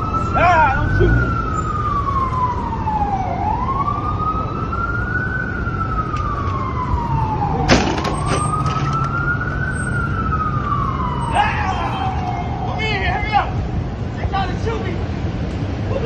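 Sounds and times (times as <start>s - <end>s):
emergency siren wailing: 0.0s - 13.9s
street traffic noise: 0.0s - 16.0s.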